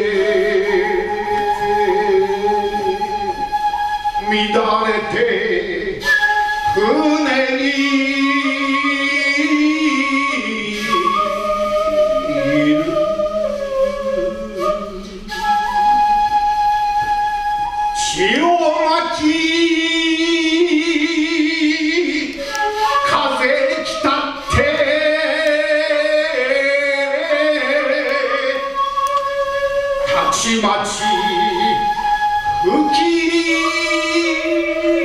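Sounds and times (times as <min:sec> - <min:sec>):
man chanting with vibrato: 0:00.0 - 0:03.6, 0:04.2 - 0:06.1, 0:06.7 - 0:16.1, 0:18.0 - 0:29.0, 0:29.6 - 0:35.0.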